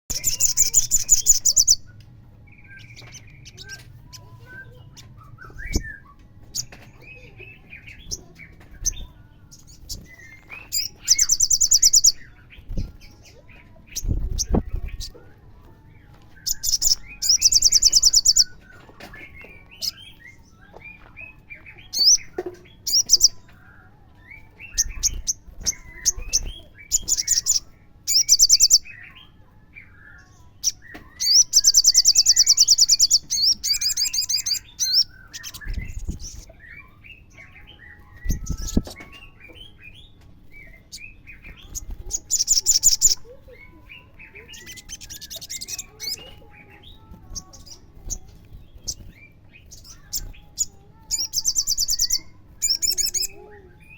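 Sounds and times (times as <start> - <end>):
bird chirps: 0.0 - 53.9
sunbird song trills: 0.0 - 53.9.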